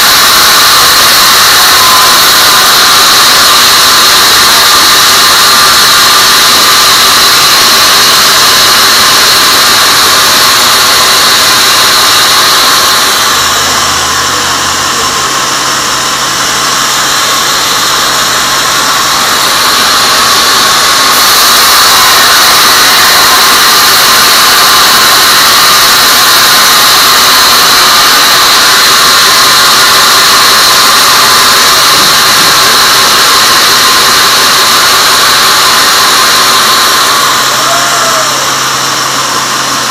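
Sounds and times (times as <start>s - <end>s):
band saw blade whine: 0.0s - 39.9s
sawing hiss: 0.0s - 39.9s.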